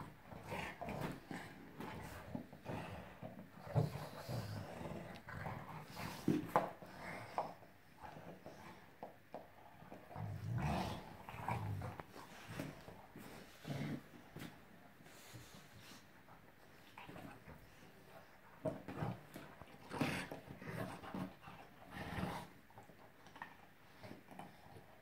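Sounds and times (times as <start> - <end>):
dogs growling: 0.0 - 14.5, 16.9 - 25.0.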